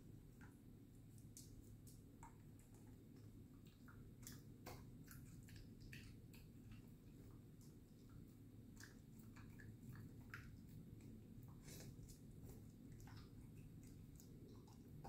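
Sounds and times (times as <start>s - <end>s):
dog eating: 2.3s - 15.0s.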